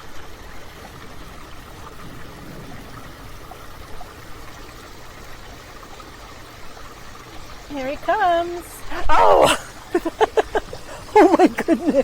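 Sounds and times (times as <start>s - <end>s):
water trickling into pond: 0.0s - 12.0s.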